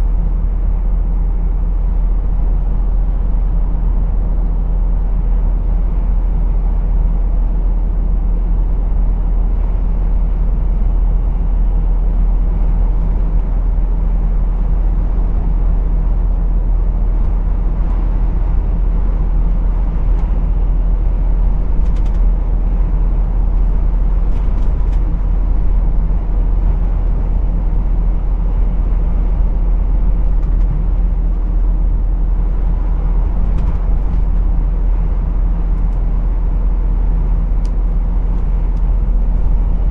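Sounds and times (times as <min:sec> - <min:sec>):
lorry diesel engine rumble: 0:00.0 - 0:39.9.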